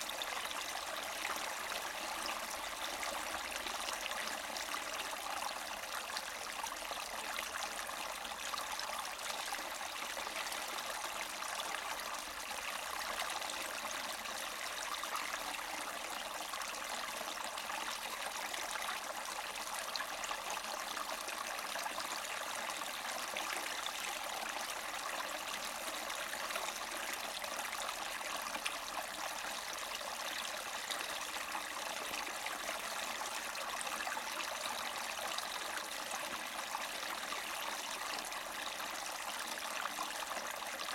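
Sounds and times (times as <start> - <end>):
brook trickling over rocks: 0.0 - 40.9.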